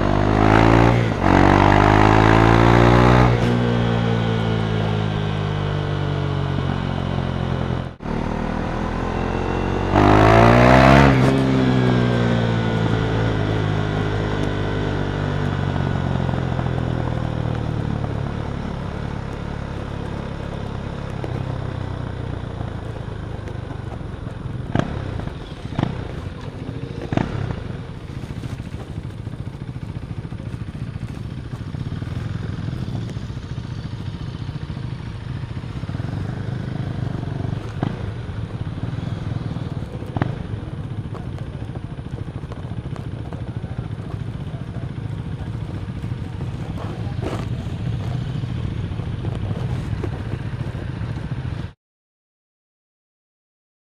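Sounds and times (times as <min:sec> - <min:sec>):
motorcycle engine revving: 0:00.0 - 0:51.8.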